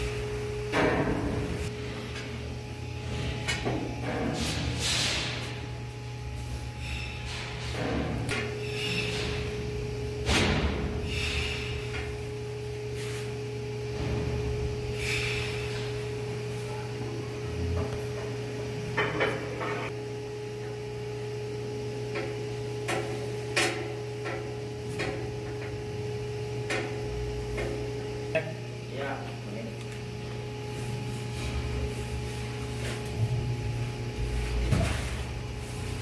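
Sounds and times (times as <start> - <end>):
low machinery hum: 0.0 - 36.0.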